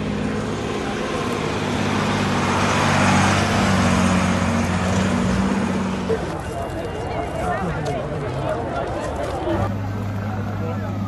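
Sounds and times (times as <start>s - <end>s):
fire truck engine driving past: 0.0s - 7.0s, 7.6s - 11.0s.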